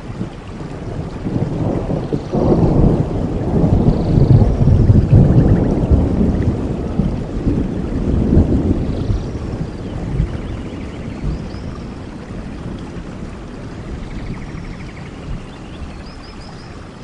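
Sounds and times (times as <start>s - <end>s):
low rumble of thunder: 0.0s - 17.0s
steady rain: 0.0s - 17.0s.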